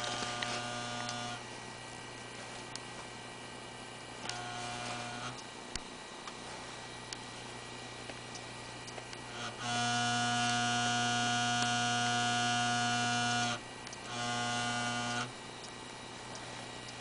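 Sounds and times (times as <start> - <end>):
computer hum: 0.0 - 17.0
hard drive buzzing: 0.0 - 17.0.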